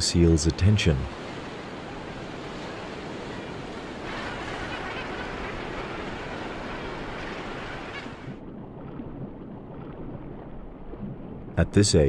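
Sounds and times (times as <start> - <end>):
surf breaking and water churning: 0.0 - 12.0.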